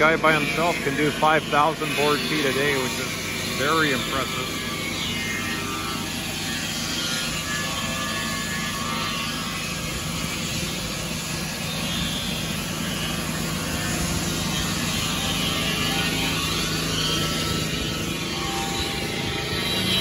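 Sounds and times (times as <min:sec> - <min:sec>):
circular saw cutting log: 0:00.0 - 0:20.0
sawmill engine running under load: 0:00.0 - 0:20.0.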